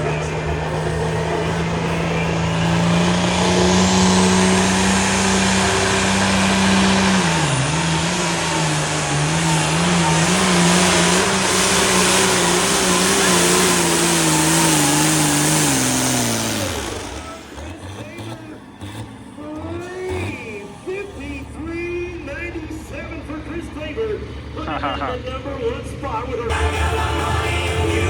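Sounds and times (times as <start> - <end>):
engine revving under load: 0.0 - 28.0.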